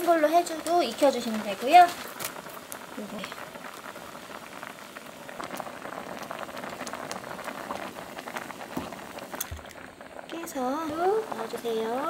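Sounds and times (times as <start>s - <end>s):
soup boiling and bubbling: 0.0s - 12.0s.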